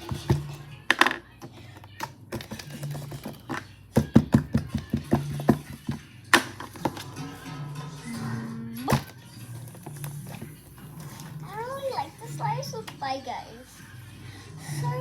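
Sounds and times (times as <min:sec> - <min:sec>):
faint background music: 0:00.0 - 0:15.0
film audio: 0:00.0 - 0:15.0.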